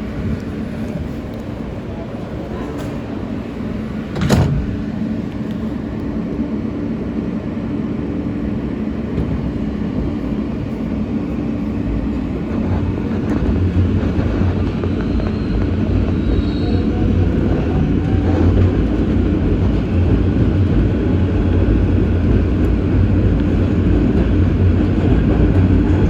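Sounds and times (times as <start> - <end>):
subway train running: 0.0 - 26.0.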